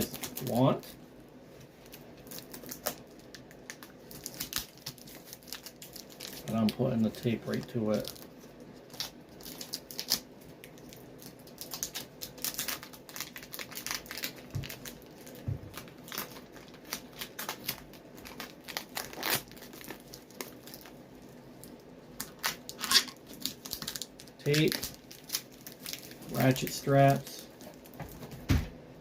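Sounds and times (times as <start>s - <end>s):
adhesive tape crackling and tearing: 0.0s - 0.9s, 1.8s - 28.0s.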